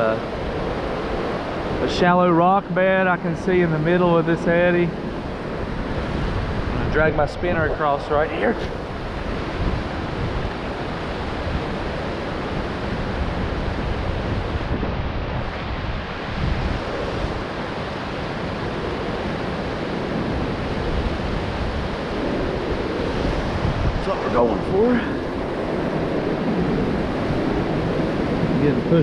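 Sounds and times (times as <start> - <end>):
river rapids rushing: 0.0 - 29.0
wind buffeting microphone: 0.0 - 29.0.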